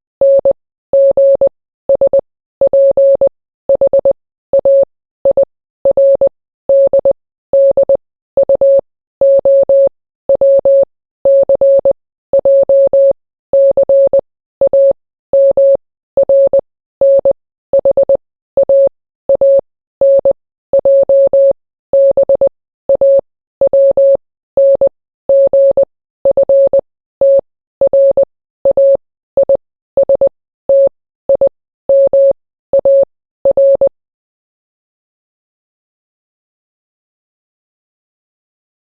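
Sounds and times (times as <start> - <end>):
morse code beeps: 0.2 - 33.9.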